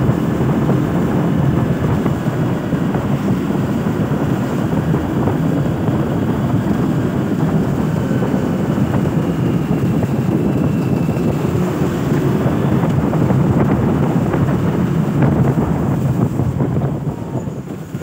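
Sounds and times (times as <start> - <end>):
motorcycle engine and road drone: 0.0 - 18.0
wind buffeting microphone: 0.0 - 18.0.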